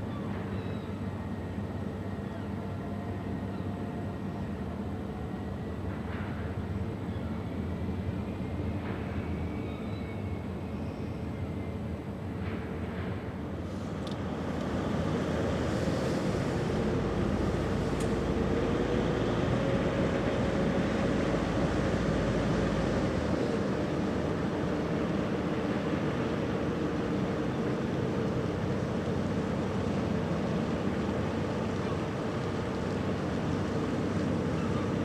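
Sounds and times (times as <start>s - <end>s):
ship engines droning: 0.0s - 35.0s.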